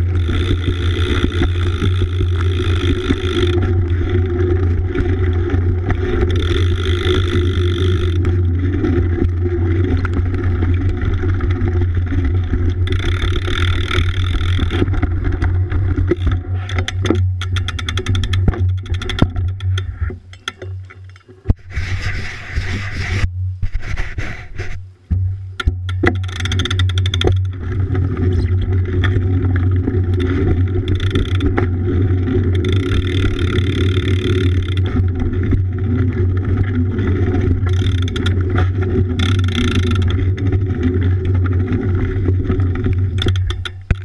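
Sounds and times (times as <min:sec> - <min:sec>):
bike tyres rolling on wet pavement: 0:00.0 - 0:19.6, 0:25.6 - 0:44.0
rapid clicking and rattling: 0:00.0 - 0:21.3, 0:25.6 - 0:44.0.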